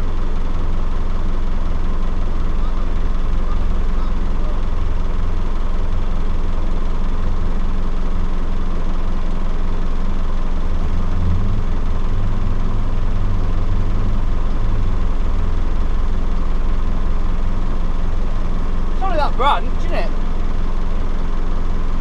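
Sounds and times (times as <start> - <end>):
engine idling low rumble: 0.0 - 22.0.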